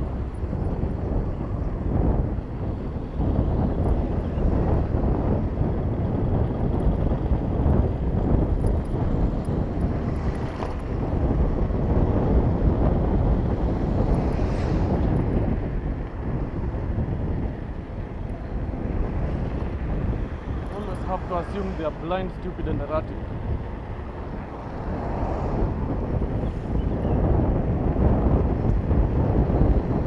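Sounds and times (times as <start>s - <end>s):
motor traffic rumble: 0.0s - 30.0s
wind buffeting microphone: 0.0s - 30.0s.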